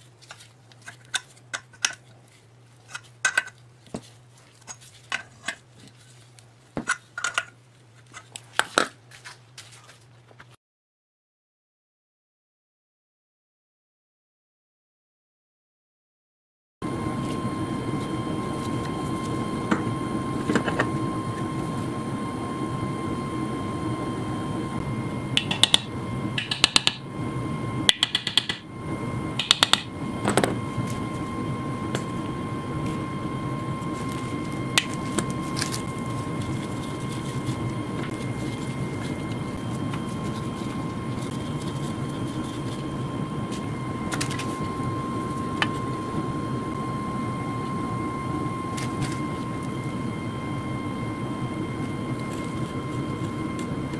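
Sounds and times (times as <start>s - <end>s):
steady hum with high tone: 0.0s - 10.5s, 16.8s - 53.9s.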